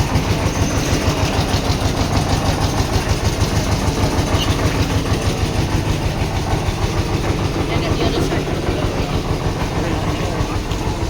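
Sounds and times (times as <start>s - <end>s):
large vehicle engine idling: 0.0s - 11.0s.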